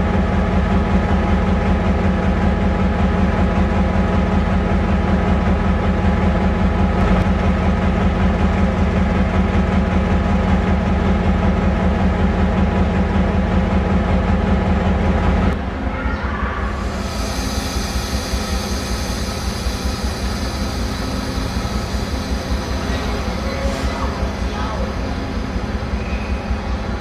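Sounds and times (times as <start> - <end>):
diesel locomotive engine droning: 0.0 - 27.0.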